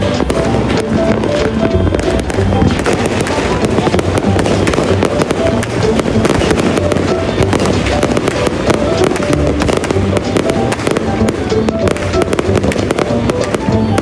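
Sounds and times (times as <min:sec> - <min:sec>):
fireworks crackling and booming: 0:00.0 - 0:14.0
music playing: 0:00.0 - 0:14.0.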